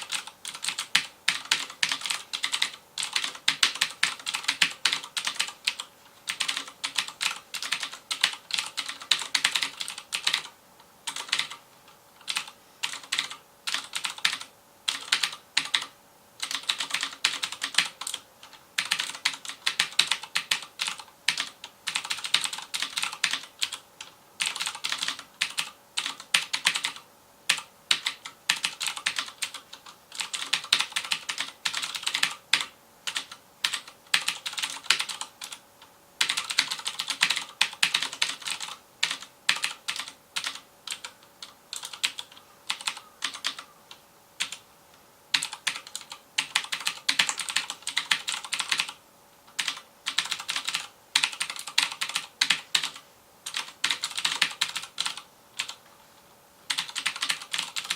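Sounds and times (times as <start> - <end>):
clicky mechanical keyboard typing: 0.0 - 35.6, 36.2 - 44.6, 45.3 - 55.8, 56.7 - 57.9.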